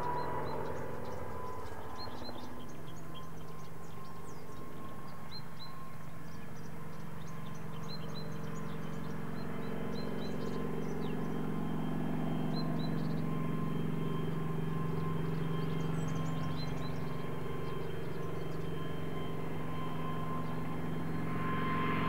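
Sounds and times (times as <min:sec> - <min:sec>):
helicopter engine drone: 0:00.0 - 0:22.0
songbirds chirping: 0:00.0 - 0:22.0.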